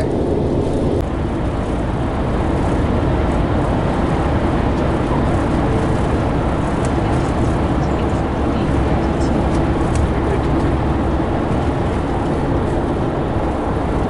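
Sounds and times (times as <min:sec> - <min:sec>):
car driving at highway speed: 0:00.0 - 0:14.0.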